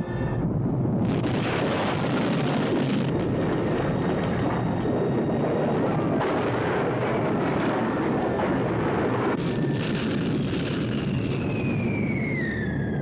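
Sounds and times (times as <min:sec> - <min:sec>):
explosion and fire roar: 0:00.0 - 0:13.0.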